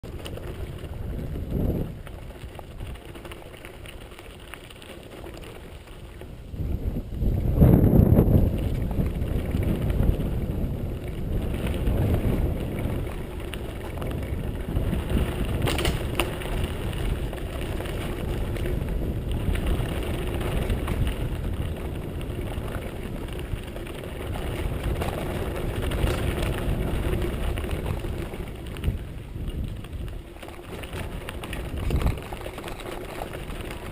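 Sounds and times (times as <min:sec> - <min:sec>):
wind on microphone: 0:00.0 - 0:04.0, 0:05.8 - 0:33.9
bike tyres on dirt track: 0:00.0 - 0:33.9.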